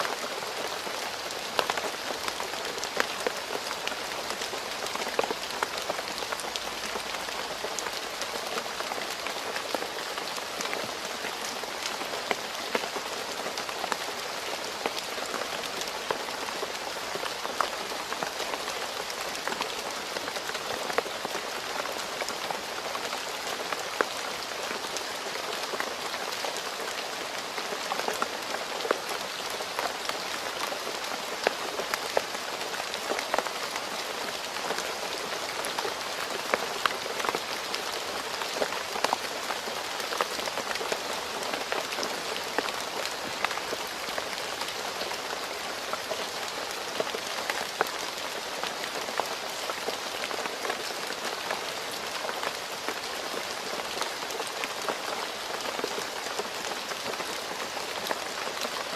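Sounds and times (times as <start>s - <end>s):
rain falling on a road: 0.0s - 58.9s.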